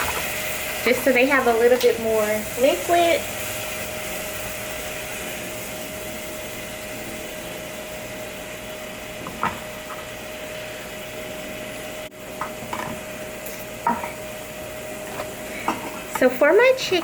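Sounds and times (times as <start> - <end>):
mushrooms sizzling in a pan: 0.0 - 17.0.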